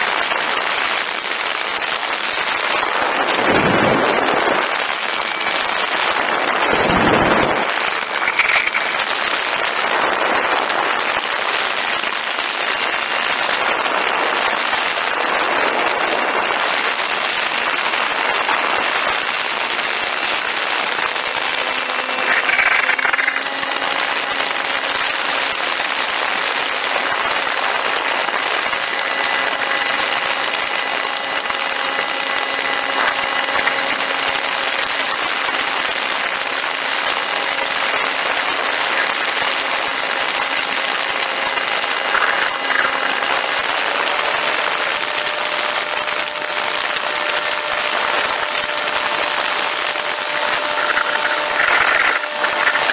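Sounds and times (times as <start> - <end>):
wind and propeller rush: 0.0 - 52.9
electric motor whine: 0.1 - 52.9.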